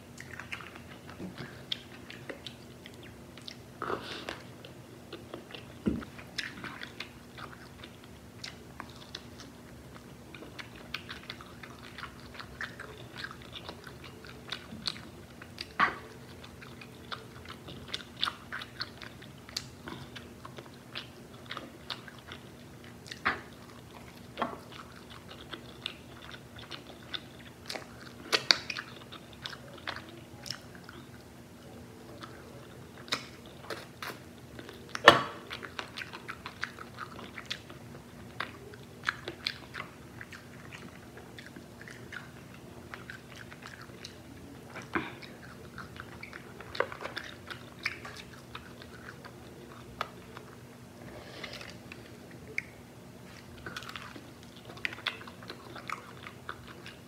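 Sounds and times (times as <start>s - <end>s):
crunchy chewing of fried chicken: 0.0s - 57.0s.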